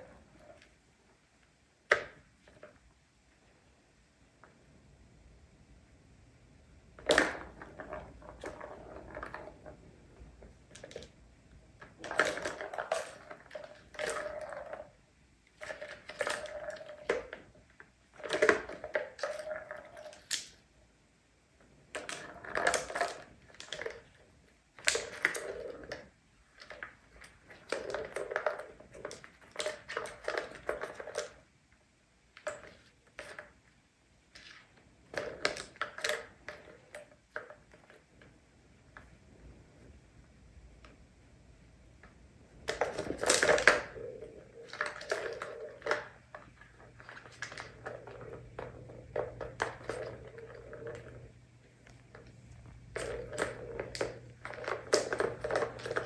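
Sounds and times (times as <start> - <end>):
plastic balls rolling and clattering: 6.8 - 20.7, 21.6 - 31.6, 32.3 - 39.4, 42.0 - 56.0.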